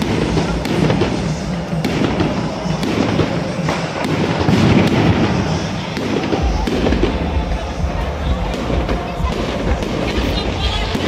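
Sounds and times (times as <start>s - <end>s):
continuous din: 0.0s - 11.0s
fireworks bangs and crackles: 0.0s - 11.0s.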